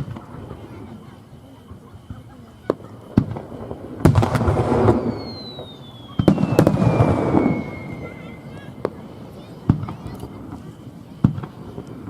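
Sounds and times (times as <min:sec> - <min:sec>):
fireworks bangs: 0:00.0 - 0:12.0
fireworks crackling burst: 0:00.0 - 0:12.0
falling firework whistle: 0:01.6 - 0:12.0.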